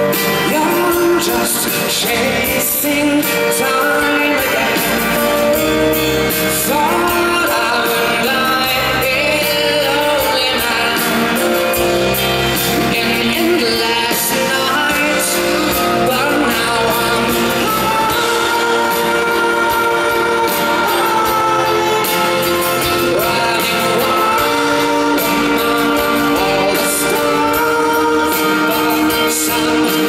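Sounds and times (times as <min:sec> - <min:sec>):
man singing: 0:00.0 - 0:30.0
pop-rock band playing ballad: 0:00.0 - 0:30.0.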